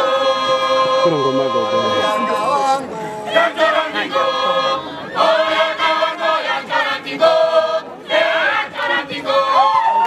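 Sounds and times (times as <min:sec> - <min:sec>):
group singing together: 0:00.0 - 0:09.9.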